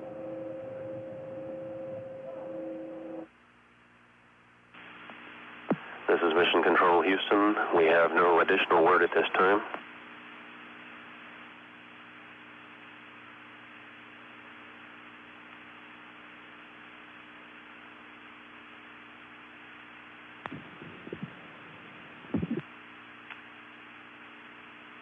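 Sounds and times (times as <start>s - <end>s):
electrical hum and hiss: 0.0s - 25.0s.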